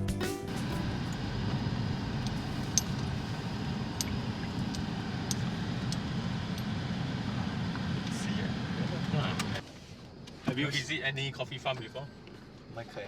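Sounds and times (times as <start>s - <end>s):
car engine and tyres rumbling: 0.5s - 13.0s.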